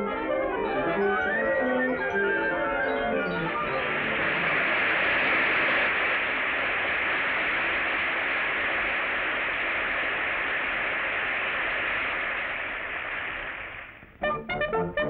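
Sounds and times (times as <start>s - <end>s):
audience applause: 0.2s - 14.0s.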